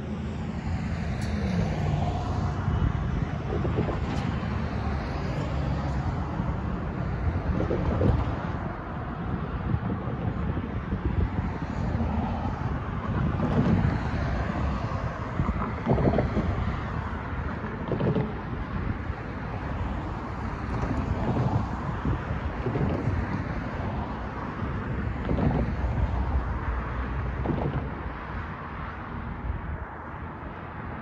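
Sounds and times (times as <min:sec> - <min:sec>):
cars driving past: 0:00.0 - 0:31.0
wind buffeting microphone: 0:00.0 - 0:31.0.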